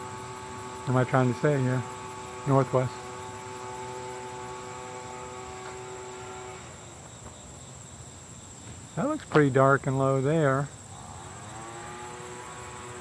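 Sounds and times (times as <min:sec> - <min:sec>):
electrical hum: 0:00.0 - 0:13.0
high-pitched insect drone: 0:00.0 - 0:13.0.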